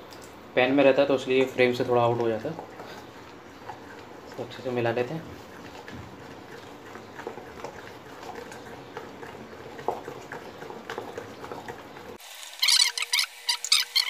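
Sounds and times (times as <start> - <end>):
batter squishing in steel bowl: 0.7 - 12.2.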